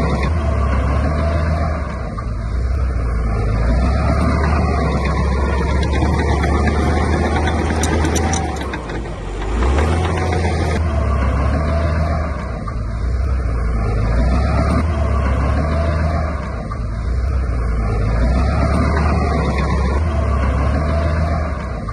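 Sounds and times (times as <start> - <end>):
diesel engine rumbling: 0.0 - 21.9.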